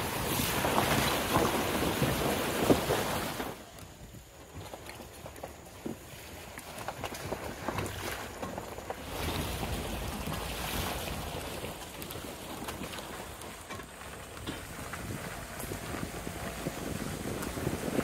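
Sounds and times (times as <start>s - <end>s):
car road rumble: 0.0s - 18.0s
wind buffeting microphone: 0.0s - 18.0s.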